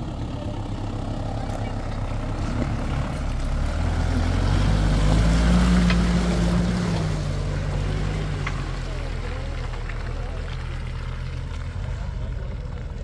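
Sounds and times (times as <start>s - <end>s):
off-road vehicle engine droning: 0.0s - 13.0s.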